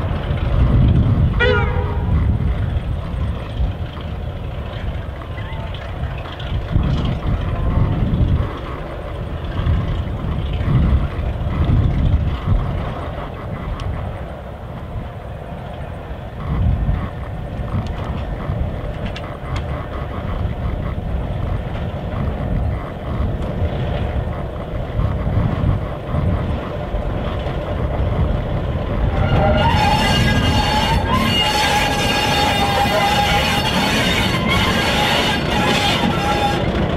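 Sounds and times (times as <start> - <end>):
diesel locomotive rumbling: 0.0 - 36.9.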